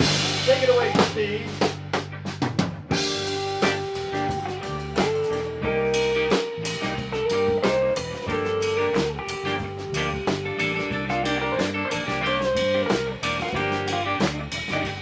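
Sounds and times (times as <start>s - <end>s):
bass line: 0.0s - 15.0s
drum kit: 0.0s - 15.0s
lead guitar bending notes: 3.0s - 15.0s.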